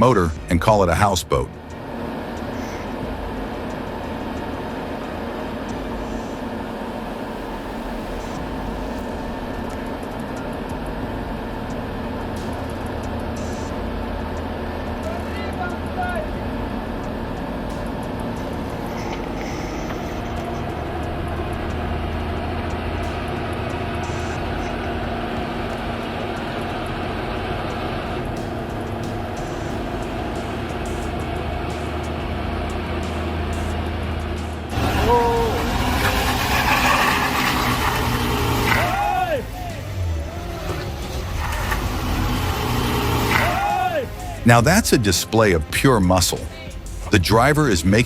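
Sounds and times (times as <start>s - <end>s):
constant wash of noise: 0.0s - 48.0s
heavy vehicle engine running: 0.0s - 48.0s.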